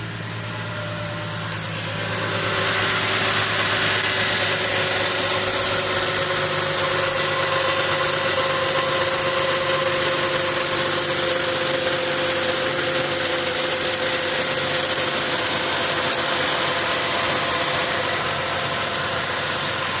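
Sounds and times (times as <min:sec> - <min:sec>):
car engine idling with metallic noise: 0:00.0 - 0:20.0.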